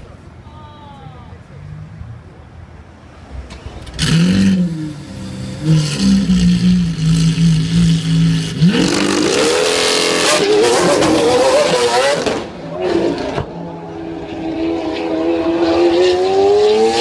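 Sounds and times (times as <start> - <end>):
sports car engine revving and idling: 3.3 - 17.0.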